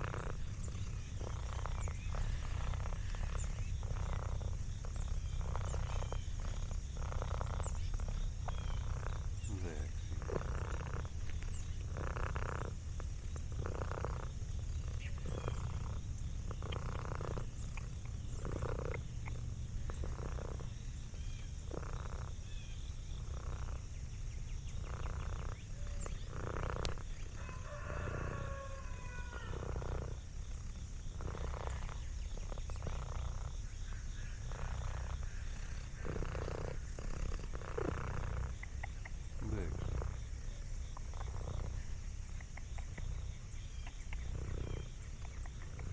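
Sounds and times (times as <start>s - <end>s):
cat purring: 0.0s - 28.4s, 29.4s - 33.7s, 34.4s - 45.9s.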